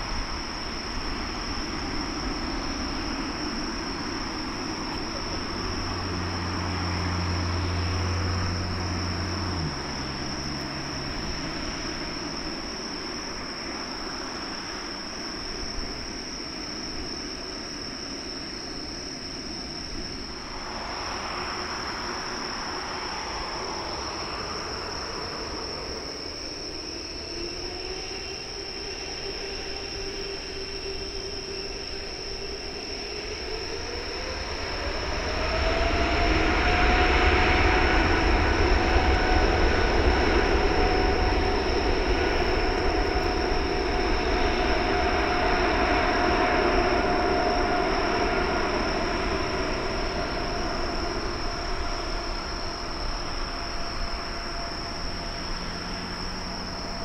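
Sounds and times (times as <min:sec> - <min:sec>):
deep engine rumble: 0:00.0 - 0:57.0
jet engines whining: 0:00.0 - 0:57.0.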